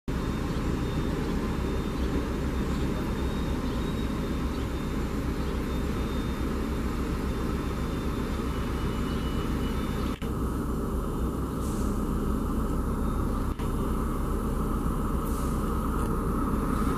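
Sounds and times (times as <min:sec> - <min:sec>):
electric train rumbling: 0:00.1 - 0:16.9.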